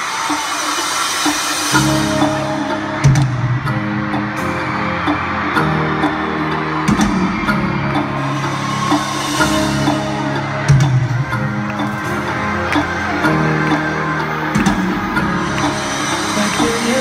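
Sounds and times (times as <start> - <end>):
live pop music over sound system: 0.0 - 17.0.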